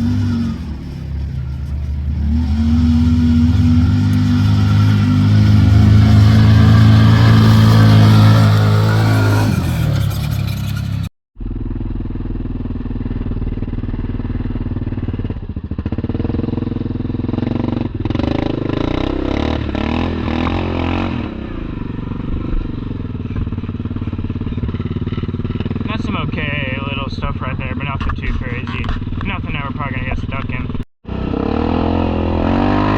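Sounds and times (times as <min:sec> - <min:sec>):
atv engine running: 0:00.0 - 0:32.9.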